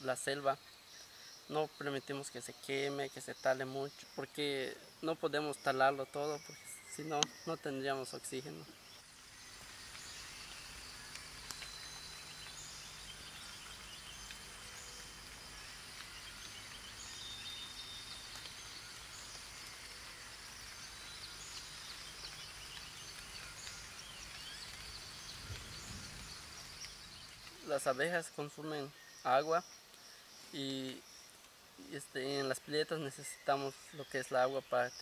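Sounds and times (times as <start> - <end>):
birds chirping: 0.0 - 35.0
insect drone: 0.0 - 35.0
soft hiss: 0.0 - 35.0.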